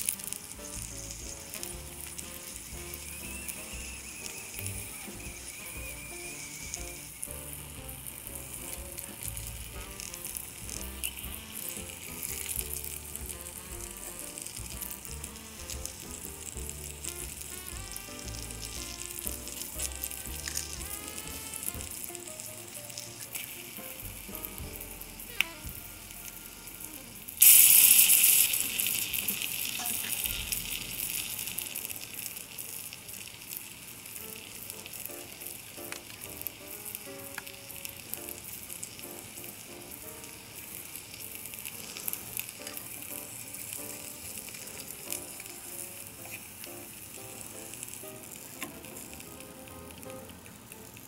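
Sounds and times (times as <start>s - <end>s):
soft background music: 0.0s - 31.6s, 34.2s - 51.0s
fish sizzling in butter: 0.0s - 51.0s.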